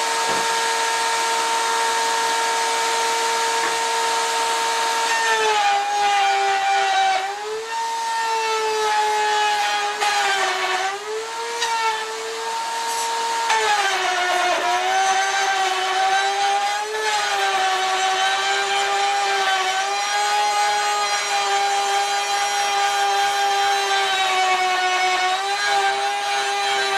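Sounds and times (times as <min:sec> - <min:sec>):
router whining cutting wood: 0:00.0 - 0:26.9.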